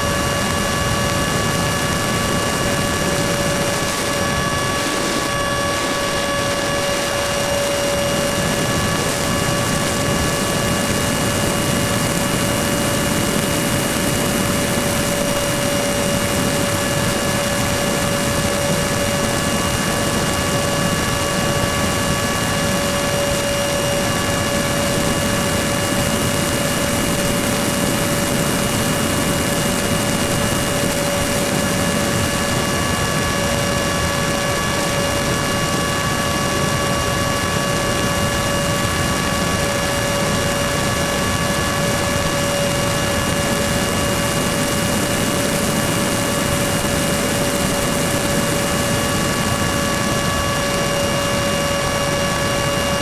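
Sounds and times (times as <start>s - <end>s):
electric fan motor whine: 0.0s - 53.0s
rushing wind noise: 0.0s - 53.0s.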